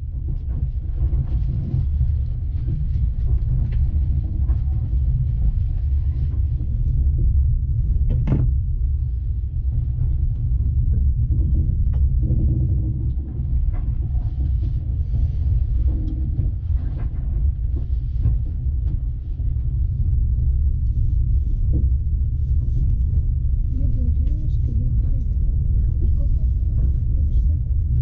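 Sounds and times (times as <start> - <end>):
passenger train rumble: 0.0 - 28.0.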